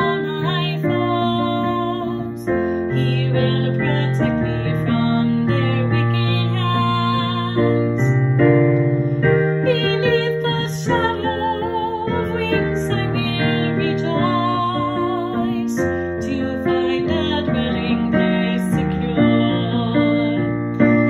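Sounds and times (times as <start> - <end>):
piano sustained chords: 0.0 - 21.0.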